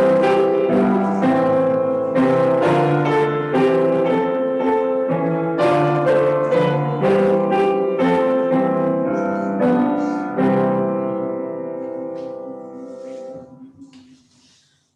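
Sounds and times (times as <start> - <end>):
piano chords and notes: 0.0 - 14.2.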